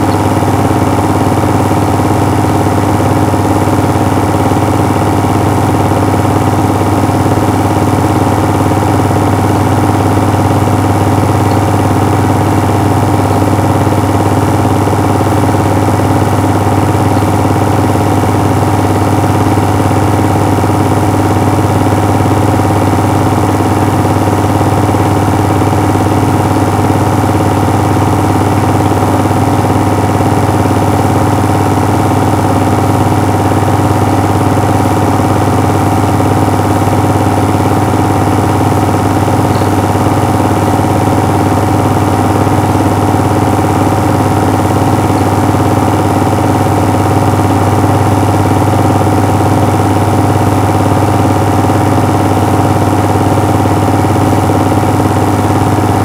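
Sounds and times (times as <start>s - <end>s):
film projector running: 0.0s - 56.0s.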